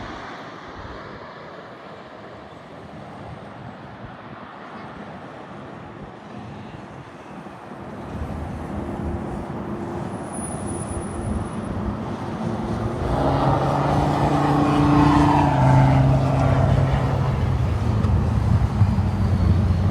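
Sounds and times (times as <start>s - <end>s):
jet engine hum and whine: 0.0s - 19.9s.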